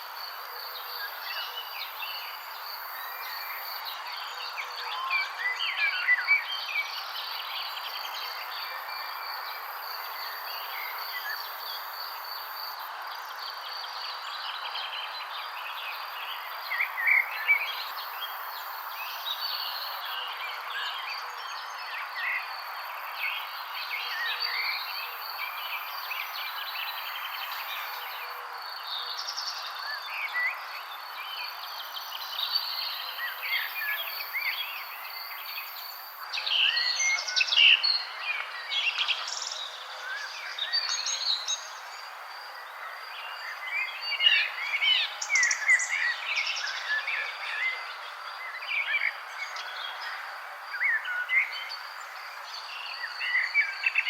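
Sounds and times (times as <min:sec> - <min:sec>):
songbirds chirping and trilling: 0:00.0 - 0:54.0
background hiss: 0:06.5 - 0:20.9, 0:21.5 - 0:54.0.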